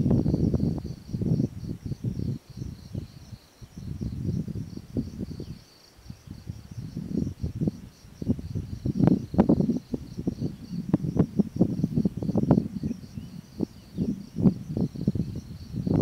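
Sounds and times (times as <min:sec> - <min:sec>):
insects trilling: 0:00.0 - 0:16.0
wind buffeting microphone: 0:00.0 - 0:16.0.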